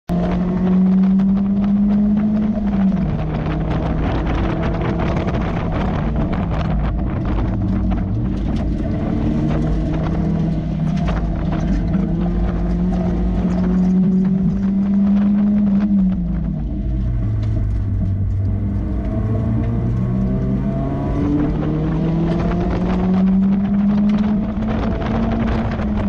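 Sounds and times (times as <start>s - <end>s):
car engine revving: 0.1s - 26.0s
wind noise: 0.1s - 26.0s.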